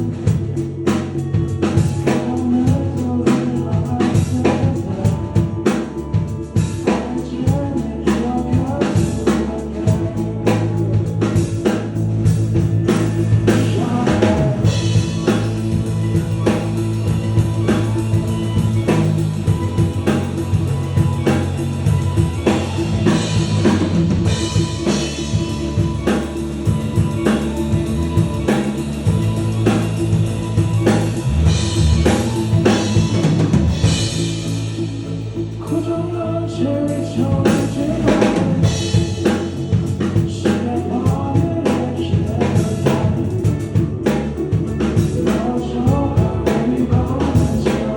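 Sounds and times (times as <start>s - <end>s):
drum kit beat: 0.0s - 35.9s, 36.9s - 47.9s
guitar: 0.0s - 47.9s
sustained bass notes: 0.0s - 47.9s.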